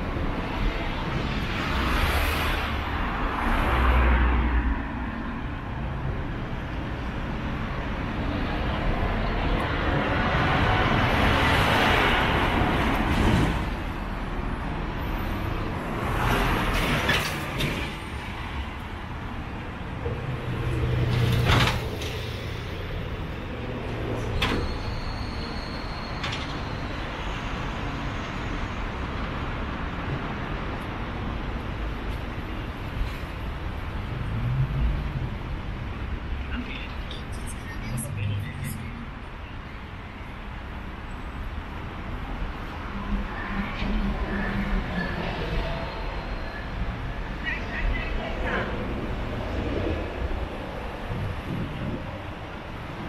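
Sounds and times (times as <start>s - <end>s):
vehicles passing: 0.0s - 53.0s.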